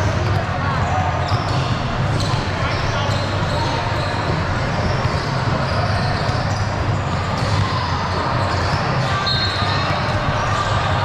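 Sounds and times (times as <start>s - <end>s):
basketball bouncing on court: 0.0s - 11.0s.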